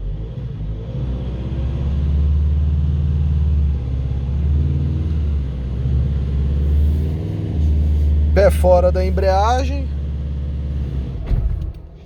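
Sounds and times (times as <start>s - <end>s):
diesel engine revving steadily: 0.0s - 12.0s.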